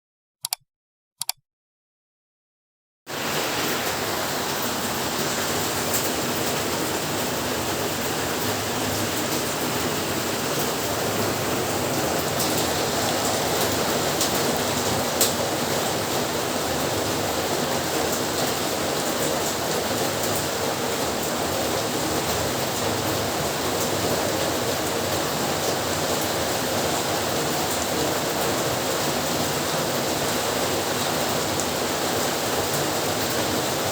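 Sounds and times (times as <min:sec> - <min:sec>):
heavy rain: 0:03.1 - 0:33.9.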